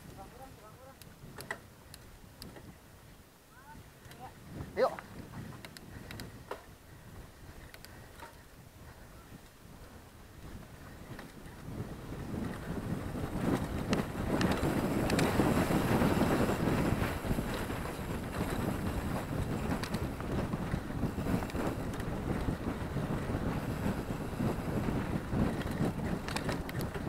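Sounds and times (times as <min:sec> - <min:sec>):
wind buffeting microphone: 0:00.0 - 0:27.0
bike frame rattling and clicking: 0:00.1 - 0:02.7, 0:05.0 - 0:06.7, 0:07.4 - 0:08.5, 0:09.8 - 0:27.0
bike tyres rumbling on dirt: 0:03.8 - 0:27.0.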